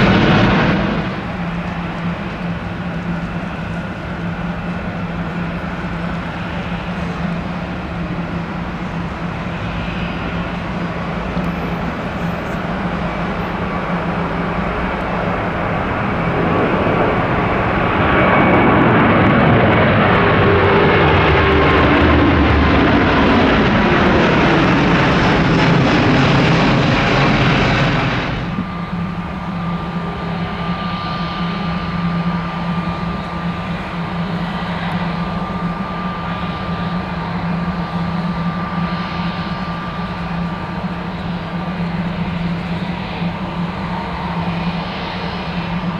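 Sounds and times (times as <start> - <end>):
jet airliner passing close by: 0.0 - 45.9
steady jet whine with low hum: 0.0 - 45.9.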